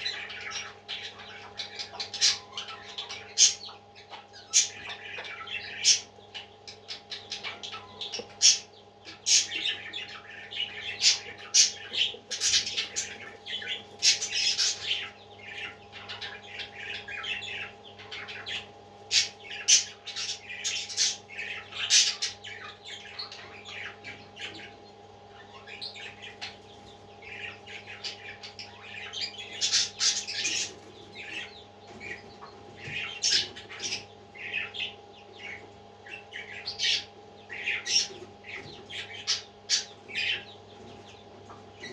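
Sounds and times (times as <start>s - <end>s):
low electrical hum: 0.0s - 41.9s
parrots squawking and chirping: 0.0s - 41.9s.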